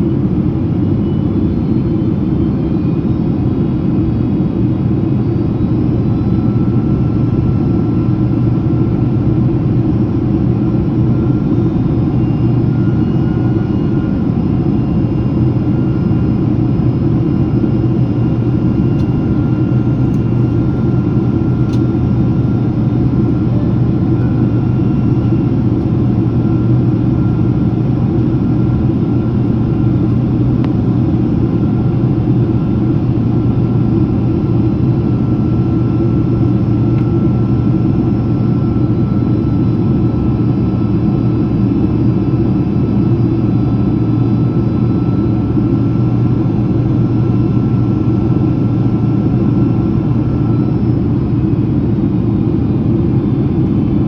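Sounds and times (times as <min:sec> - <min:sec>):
faint steady whine: 0:00.0 - 0:53.9
airliner cabin engine roar: 0:00.0 - 0:54.0.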